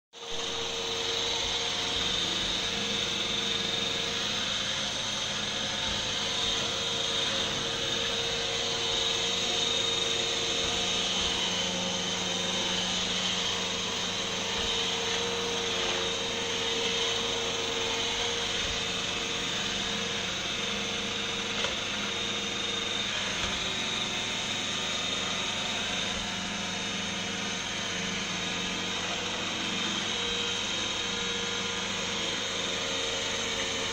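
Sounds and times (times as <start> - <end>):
vacuum brushes whirring on floor: 0.1 - 33.9
robot vacuum suction motor whining: 0.2 - 33.9.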